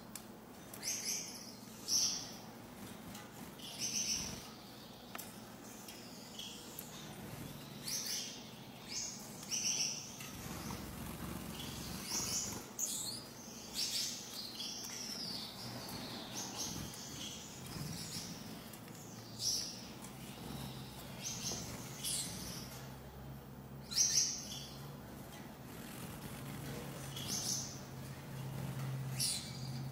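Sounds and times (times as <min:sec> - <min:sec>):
faint low hum: 0:00.0 - 0:29.9
finches chirping: 0:00.8 - 0:23.2, 0:23.8 - 0:24.9, 0:25.7 - 0:29.9.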